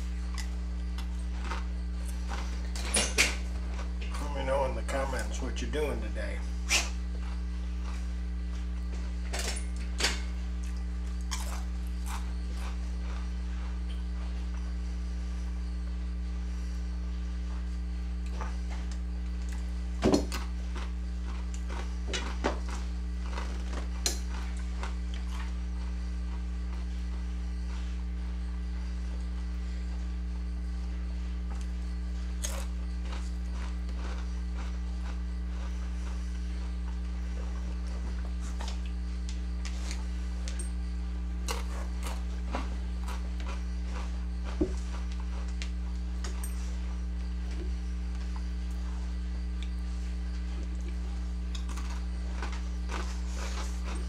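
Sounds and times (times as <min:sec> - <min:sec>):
crunching of tortilla chips: 0:00.0 - 0:14.8, 0:17.4 - 0:29.4, 0:31.4 - 0:54.0
low electrical hum: 0:00.0 - 0:54.0.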